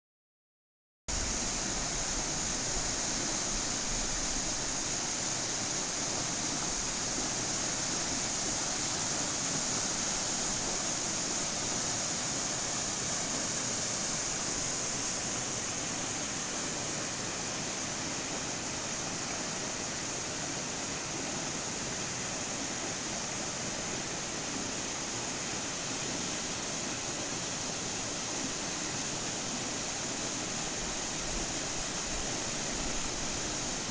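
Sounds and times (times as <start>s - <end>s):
river water rushing: 1.1s - 33.9s.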